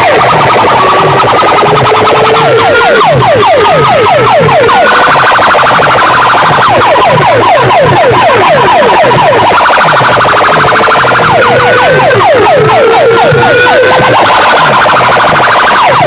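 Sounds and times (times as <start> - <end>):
pulsing low beat: 0.0 - 16.0
siren-like electronic sweeps: 0.0 - 16.0.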